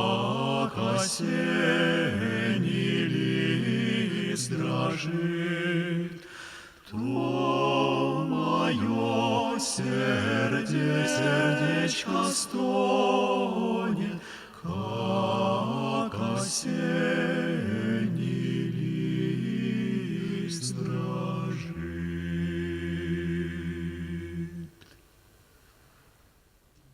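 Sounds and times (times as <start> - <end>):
male vocal quartet singing a cappella: 0.0 - 24.8.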